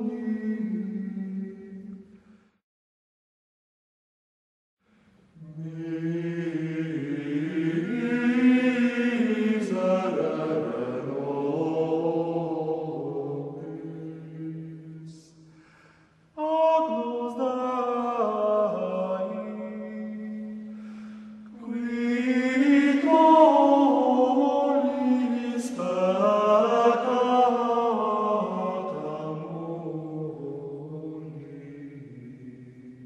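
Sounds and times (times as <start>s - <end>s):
slow vocal chant: 0.0s - 2.6s, 5.3s - 33.0s.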